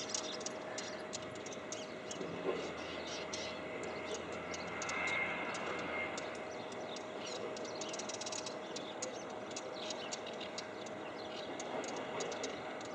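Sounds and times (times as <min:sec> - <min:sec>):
faint constant hum: 0:00.0 - 0:12.9.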